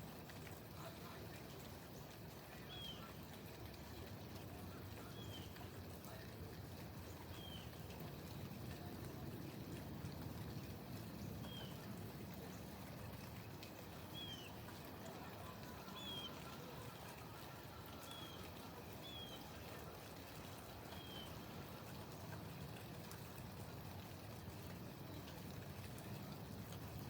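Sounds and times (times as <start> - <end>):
faint background noise: 0.0 - 27.0.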